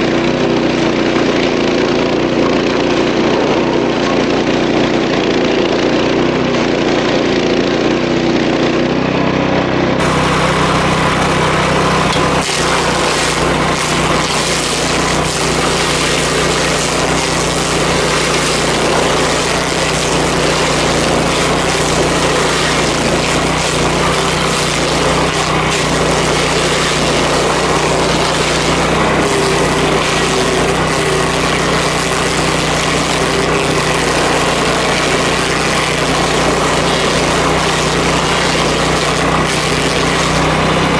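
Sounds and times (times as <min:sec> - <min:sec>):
stump grinder grinding: 0:00.0 - 0:40.9.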